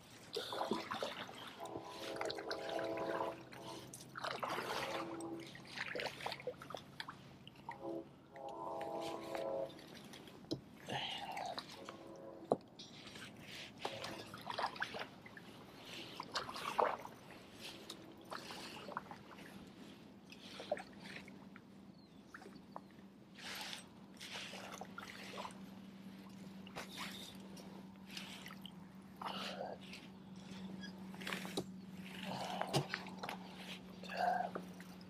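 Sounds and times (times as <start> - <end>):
paddle splashing in water: 0.0 - 35.0.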